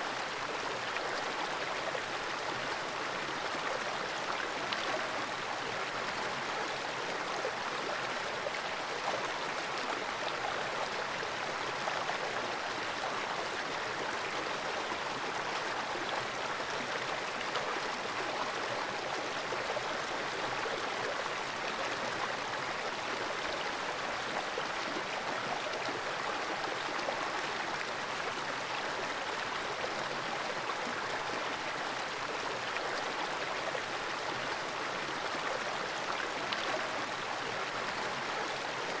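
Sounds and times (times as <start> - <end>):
fast-flowing creek water: 0.0 - 39.0.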